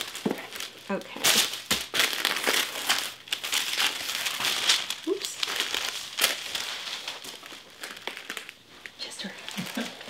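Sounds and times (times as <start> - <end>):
tissue paper rustling and crinkling: 0.0 - 10.0.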